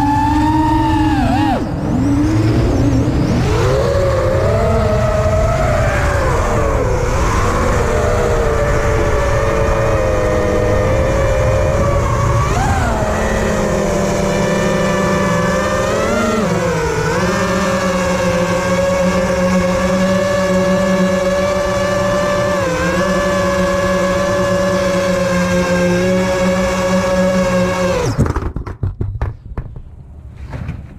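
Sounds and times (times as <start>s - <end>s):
low wind rumble: 0.0s - 28.2s
drone motors whining: 0.0s - 28.4s.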